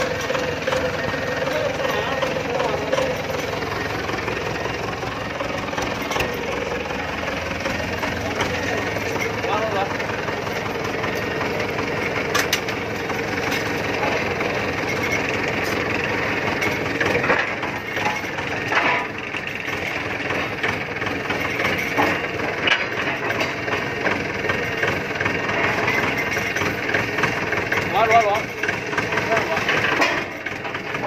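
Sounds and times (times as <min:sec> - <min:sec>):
diesel engine running: 0:00.0 - 0:31.0
machine rattle: 0:00.0 - 0:31.0.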